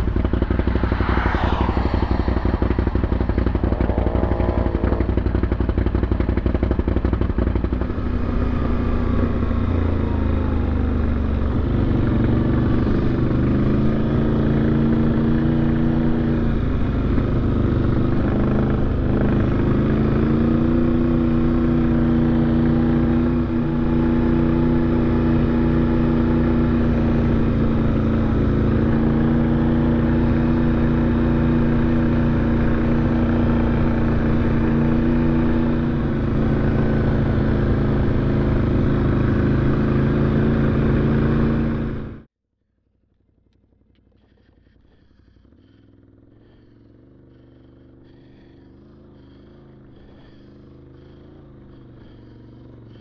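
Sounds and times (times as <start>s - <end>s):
atv engine running: 2.2s - 42.3s, 42.9s - 53.0s.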